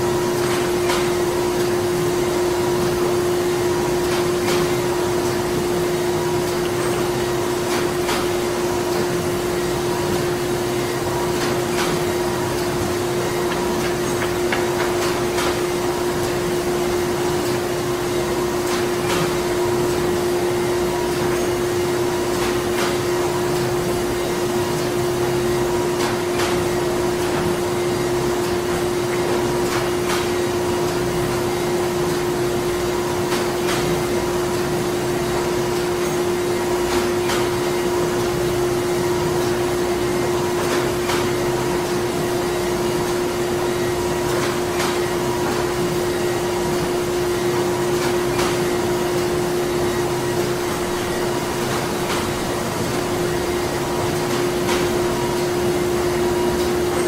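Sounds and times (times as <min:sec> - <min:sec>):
printing machinery humming: 0:00.0 - 0:57.0.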